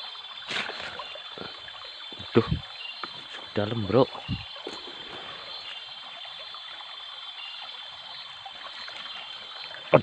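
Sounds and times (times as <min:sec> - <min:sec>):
small stream trickling: 0:00.0 - 0:10.0.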